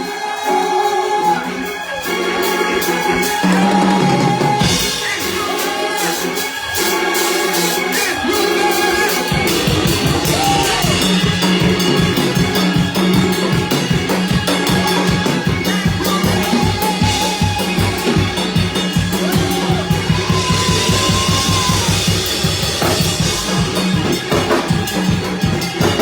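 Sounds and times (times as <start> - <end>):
church band playing fast music: 0.0 - 26.0
drum kit beat: 0.0 - 26.0.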